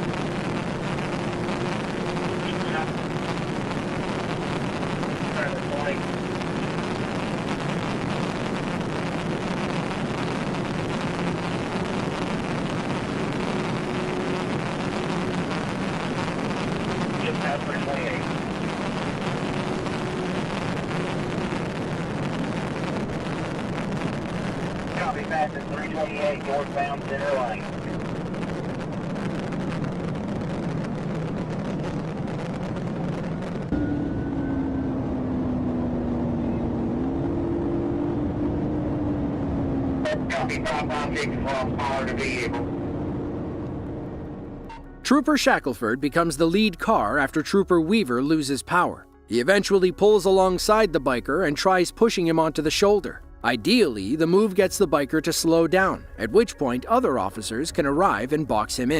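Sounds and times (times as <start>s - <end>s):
low engine drone: 0.0s - 48.3s, 48.9s - 58.9s
road and wind noise: 0.0s - 48.3s.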